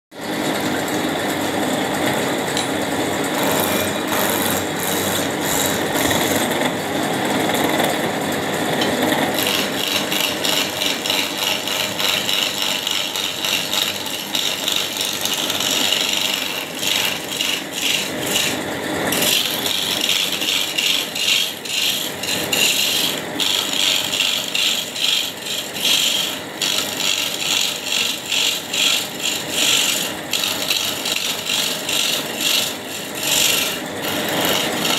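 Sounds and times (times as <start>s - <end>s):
chisel scraping spinning wood: 0.3s - 34.9s.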